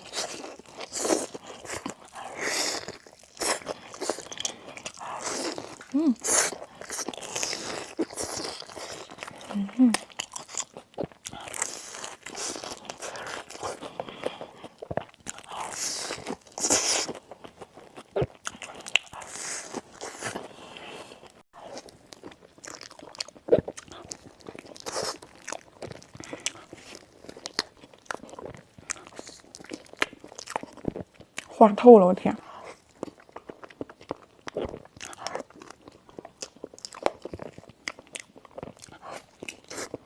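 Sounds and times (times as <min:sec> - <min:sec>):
crisp food crunching: 0:00.0 - 0:31.6, 0:32.4 - 0:40.0.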